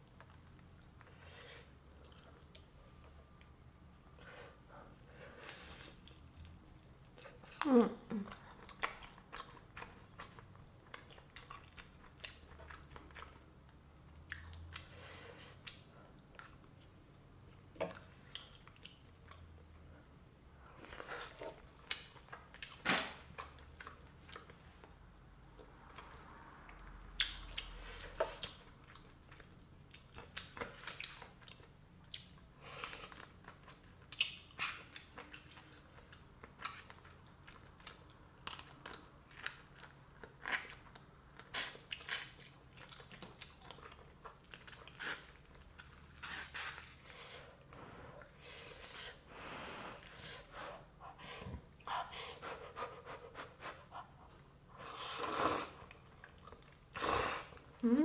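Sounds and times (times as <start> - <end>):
person chewing noodles: 0.0 - 19.9, 27.2 - 58.0.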